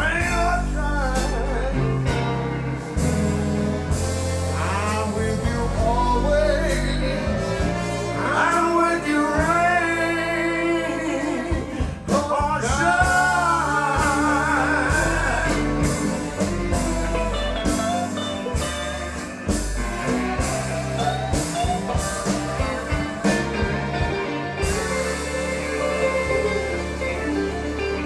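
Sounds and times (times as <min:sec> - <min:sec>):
electric guitar lead: 0:00.0 - 0:28.0
slow blues band music: 0:00.0 - 0:28.0.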